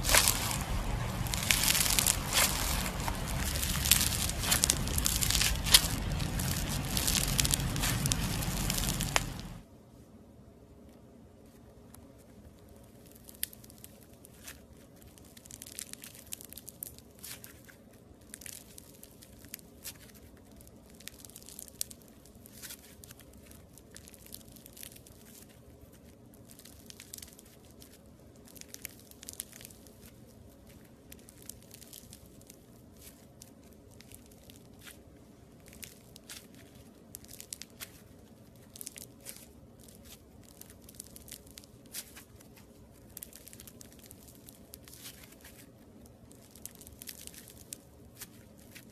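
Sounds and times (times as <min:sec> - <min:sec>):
slime crunching and popping: 0:00.0 - 0:09.6, 0:12.8 - 0:48.9.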